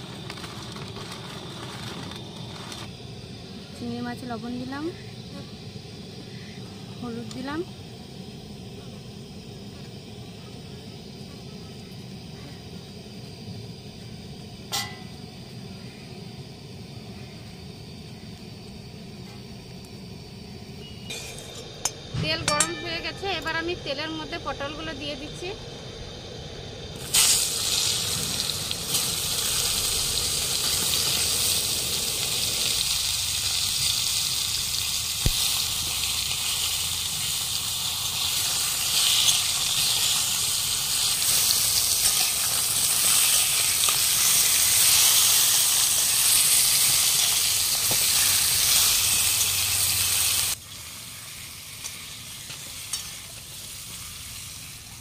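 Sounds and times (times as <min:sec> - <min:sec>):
faint hiss: 0:00.0 - 0:55.0
vegetables sizzling in oil: 0:00.0 - 0:55.0.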